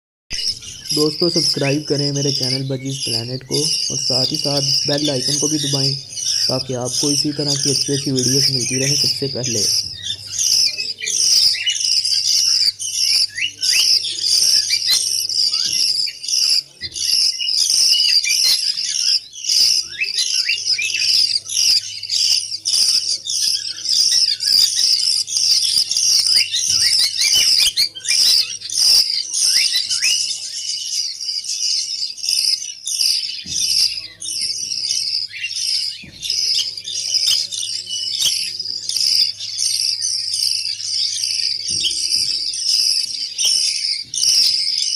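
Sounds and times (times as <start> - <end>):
budgerigars chattering: 0.3 - 44.9.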